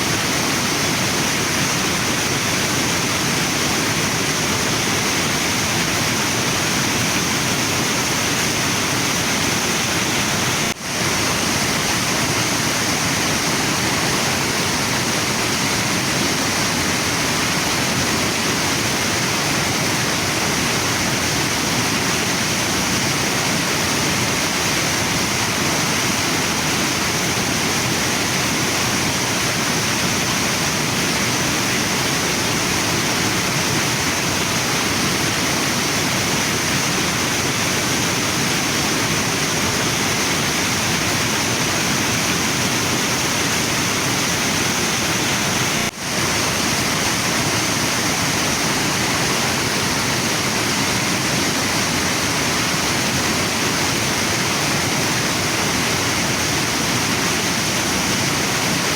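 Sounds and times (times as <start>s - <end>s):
waterfall and river rushing: 0.0s - 58.9s.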